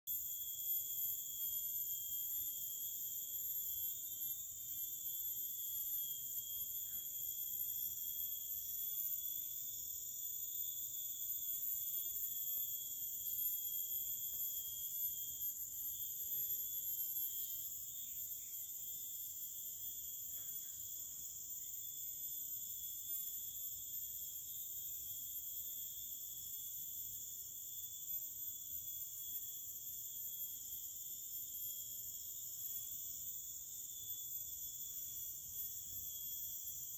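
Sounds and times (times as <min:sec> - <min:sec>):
high-pitched insect chorus: 0:00.1 - 0:36.9.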